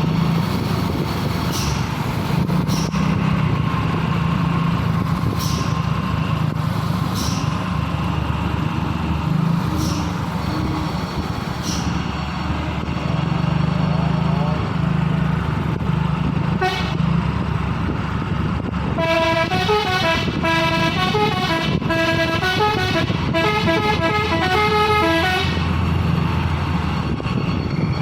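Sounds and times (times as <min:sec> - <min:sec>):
vehicle engines humming: 0:00.0 - 0:28.0.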